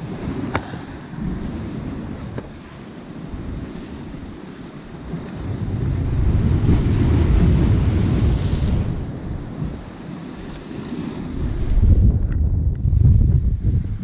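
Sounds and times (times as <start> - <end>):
waves breaking on rocky shore: 0.0 - 12.4
wind buffeting microphone: 0.0 - 14.0.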